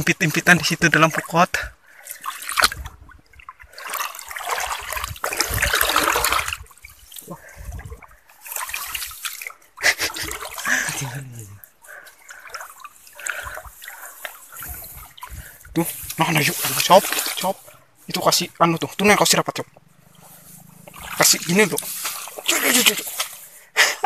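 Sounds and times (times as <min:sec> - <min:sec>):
water splashing from fishing net: 0:00.0 - 0:23.8.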